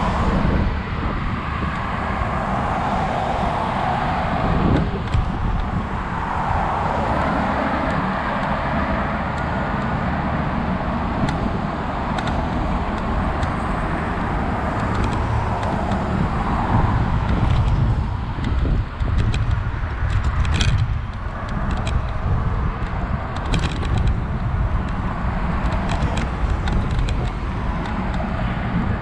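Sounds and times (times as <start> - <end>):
rushing air: 0.0 - 29.0
scooter rumble: 0.0 - 29.0.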